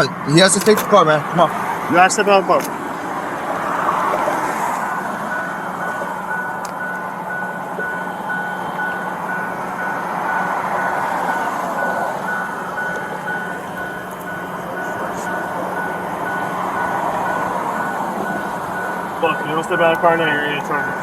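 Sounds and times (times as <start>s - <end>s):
truck engine and road noise: 0.0s - 21.0s
truck reversing alarm beeping: 1.2s - 21.0s.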